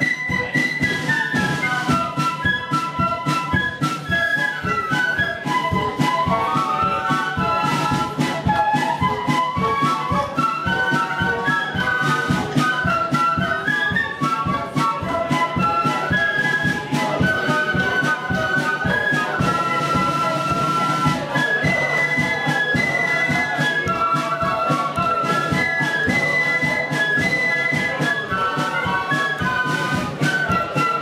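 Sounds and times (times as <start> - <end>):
drums keeping a steady beat: 0.0 - 31.0
flutes and piccolos playing melody: 0.0 - 31.0.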